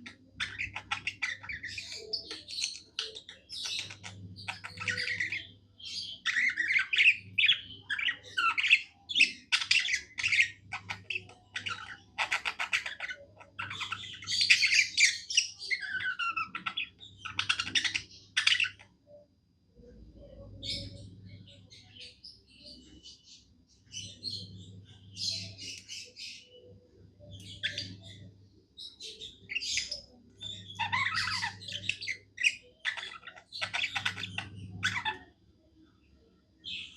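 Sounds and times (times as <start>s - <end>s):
budgerigar warbling and chirping: 0.0s - 19.2s, 20.2s - 22.8s, 23.9s - 35.4s.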